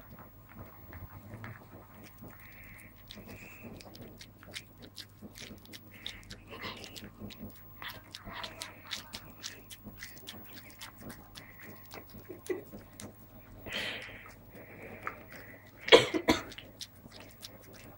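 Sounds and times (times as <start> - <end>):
dog chewing with smacking jaws: 0.0 - 17.9.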